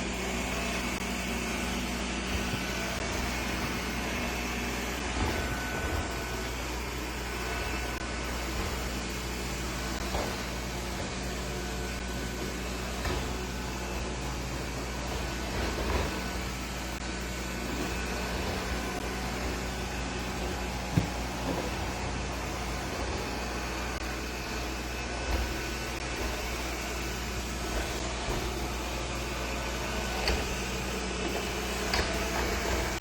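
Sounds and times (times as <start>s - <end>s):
motor or fan humming: 0.0s - 33.0s.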